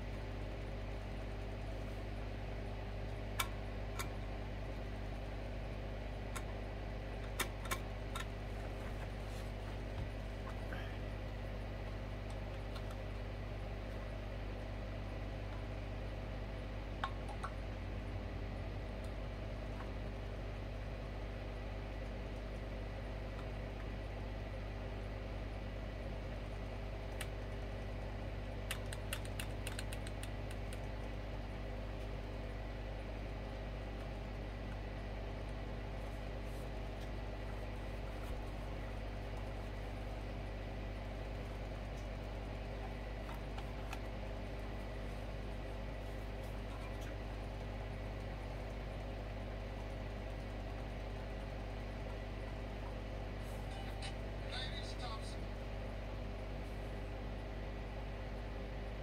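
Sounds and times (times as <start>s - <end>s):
machine hum with fixed tones: 0.0s - 59.0s.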